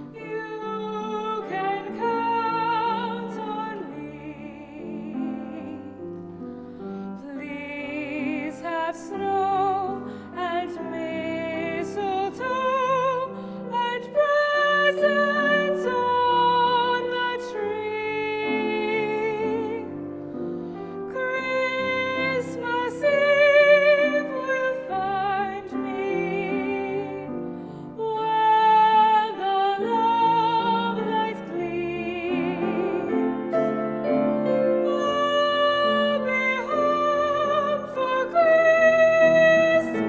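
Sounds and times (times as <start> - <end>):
women singing with vibrato: 0.0 - 6.2, 7.1 - 20.0, 21.0 - 40.0
piano accompaniment: 0.0 - 40.0.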